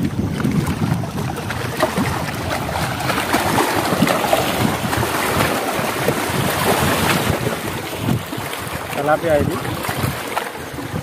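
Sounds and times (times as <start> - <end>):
waves lapping on rocky shore: 0.0 - 11.0.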